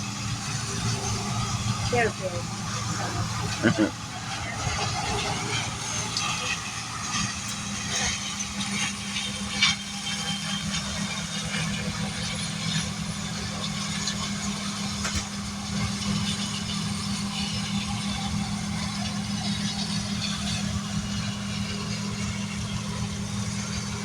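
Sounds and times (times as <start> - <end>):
combine harvester engine hum: 0.0 - 24.0.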